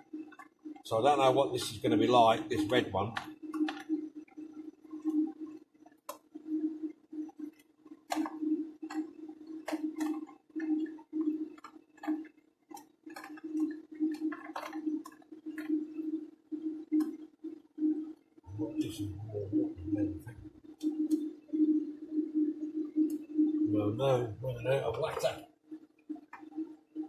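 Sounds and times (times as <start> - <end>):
steady pulsing hum: 0.0 - 27.0.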